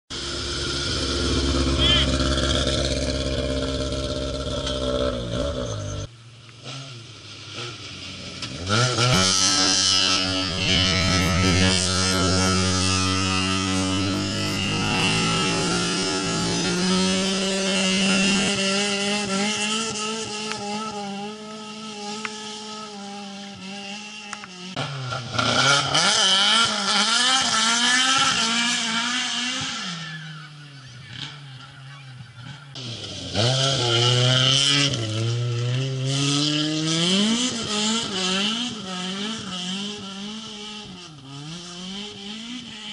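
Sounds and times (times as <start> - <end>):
rally car engine at high revs: 0.4 - 42.9.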